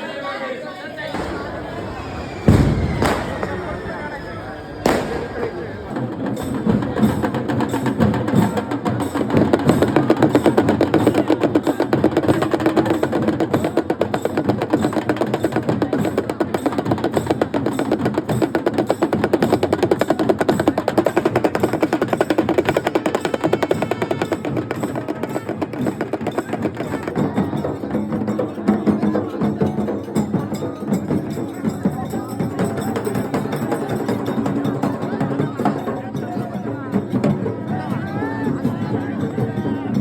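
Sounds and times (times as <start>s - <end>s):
drum ensemble fast rolls: 1.0s - 40.0s.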